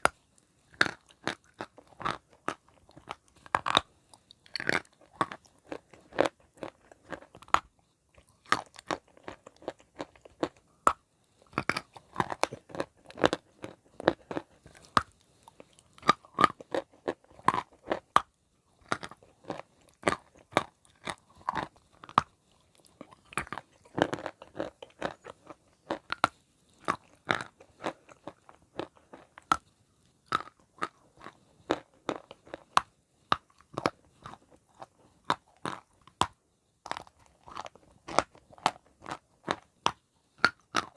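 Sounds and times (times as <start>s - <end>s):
chalk crunching while chewed: 0.0s - 40.9s.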